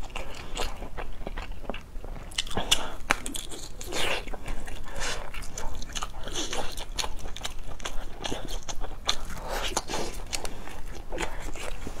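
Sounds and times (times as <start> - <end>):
person chewing sausages: 0.0 - 12.0.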